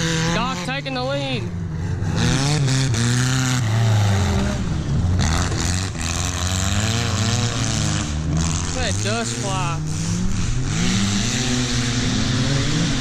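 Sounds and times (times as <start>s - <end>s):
race car engines revving: 0.0s - 13.0s.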